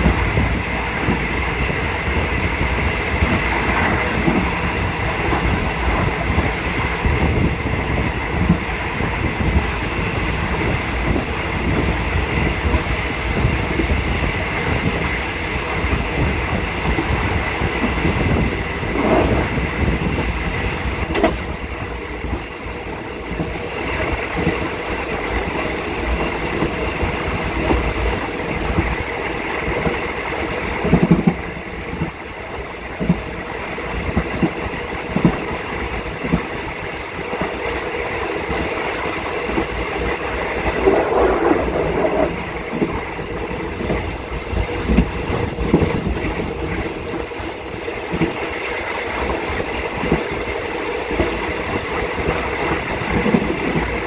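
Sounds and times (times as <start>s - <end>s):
train knocks and clatter: 0.0s - 54.0s
train wheels rumbling on rails: 0.0s - 54.0s.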